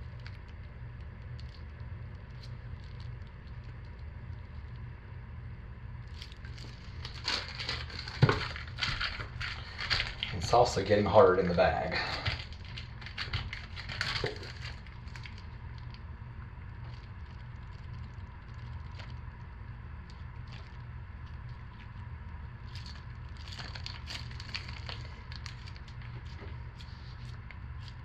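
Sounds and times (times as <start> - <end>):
plastic piping bag crinkling: 0.0 - 4.8, 6.0 - 28.0
low hum: 0.0 - 28.0.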